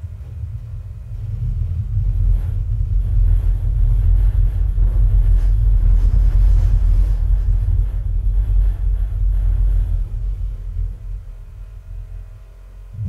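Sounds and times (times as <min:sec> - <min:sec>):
deep bass rumble from subwoofer: 0:00.0 - 0:13.0.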